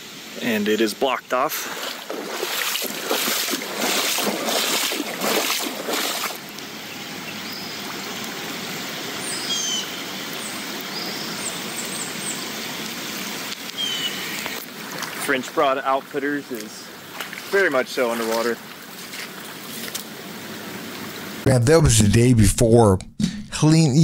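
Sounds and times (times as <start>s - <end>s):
floodwater rushing: 0.3s - 21.4s.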